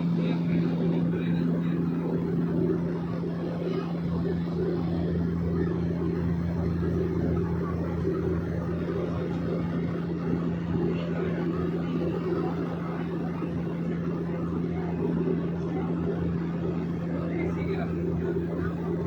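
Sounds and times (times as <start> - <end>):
airplane engine and propeller droning: 0.0 - 19.0.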